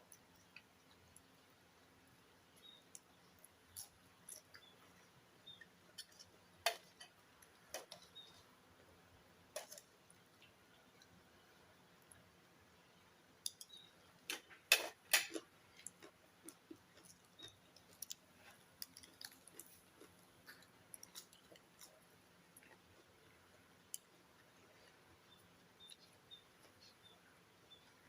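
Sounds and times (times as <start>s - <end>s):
chewing and crunching food: 0.0s - 8.5s, 13.4s - 28.0s.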